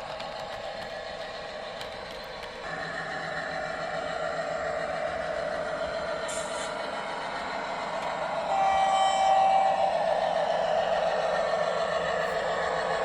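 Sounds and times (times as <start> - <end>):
model locomotive mechanical hum: 0.0 - 13.0.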